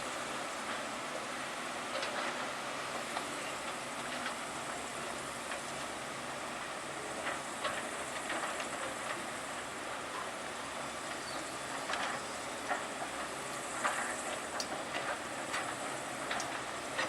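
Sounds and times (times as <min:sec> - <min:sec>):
construction machinery running: 0:00.0 - 0:17.0.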